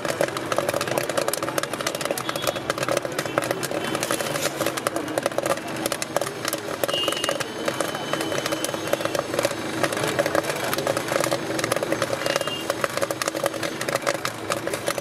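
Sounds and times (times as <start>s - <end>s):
popcorn popping in metal pot: 0.0s - 15.0s.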